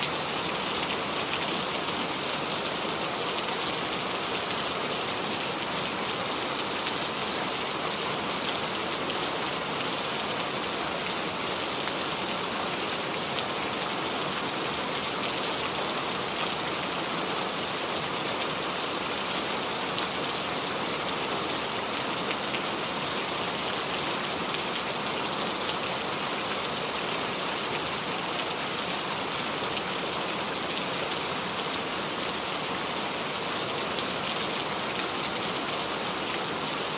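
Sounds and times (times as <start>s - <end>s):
rain on a roof: 0.0s - 36.9s.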